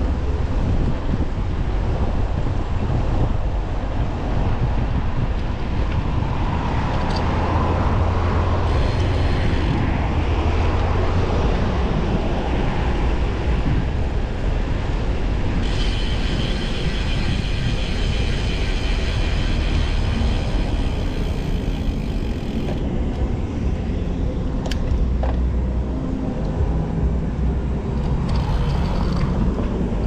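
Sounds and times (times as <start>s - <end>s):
road and traffic noise: 0.0s - 30.0s
wind buffeting microphone: 0.0s - 30.0s.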